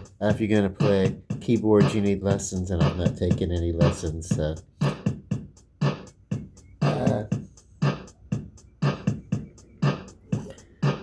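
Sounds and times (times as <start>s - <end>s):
drum machine beat: 0.0s - 11.0s.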